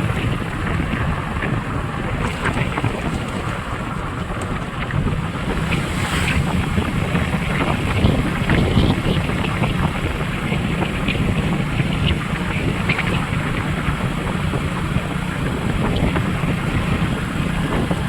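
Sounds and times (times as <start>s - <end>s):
motorbike engine: 0.0s - 18.0s
road rumble: 0.0s - 18.0s
wind buffeting microphone: 0.0s - 18.0s.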